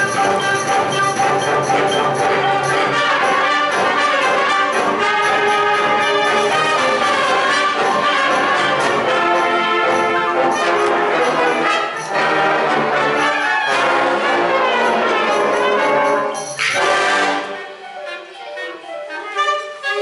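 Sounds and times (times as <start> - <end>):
wind band playing chords: 0.0 - 20.0.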